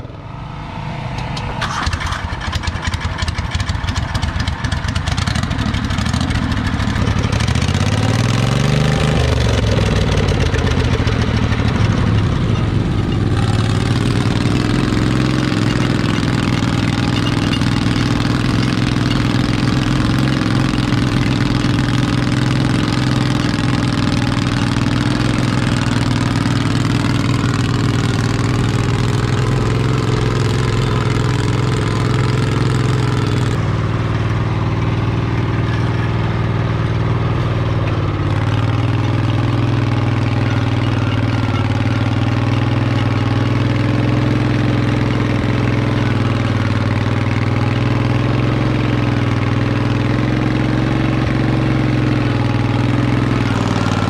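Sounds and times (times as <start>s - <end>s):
garden tractor engine under load: 0.0s - 54.0s.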